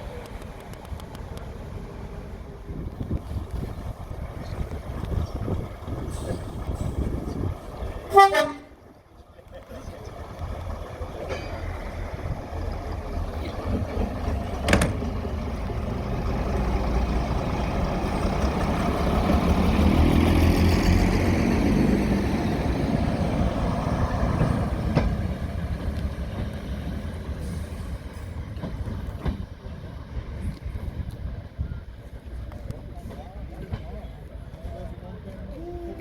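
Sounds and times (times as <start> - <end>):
diesel locomotive passing: 0.0 - 36.0.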